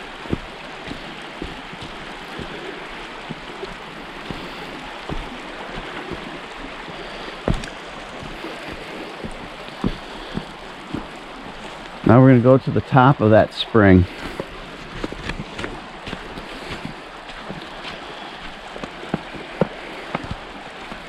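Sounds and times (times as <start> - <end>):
water running over rocks: 0.0 - 21.0.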